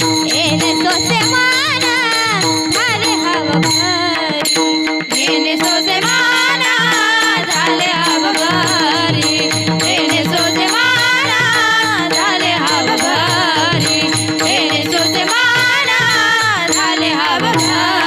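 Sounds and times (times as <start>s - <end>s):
held accompanying tones: 0.0s - 18.0s
woman singing devotional melody: 0.0s - 18.0s.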